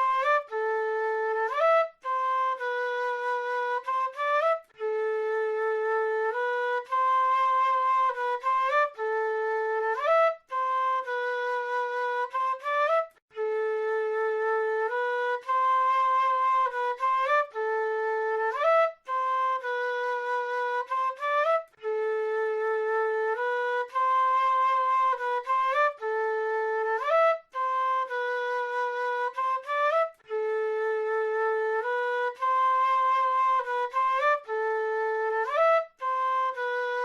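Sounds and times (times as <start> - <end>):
flute playing slow melody: 0.0 - 37.0.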